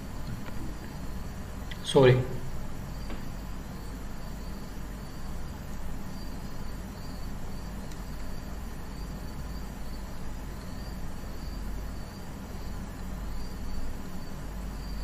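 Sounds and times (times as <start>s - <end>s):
cricket chirping: 0.0s - 15.0s
low hum and hiss: 0.0s - 15.0s.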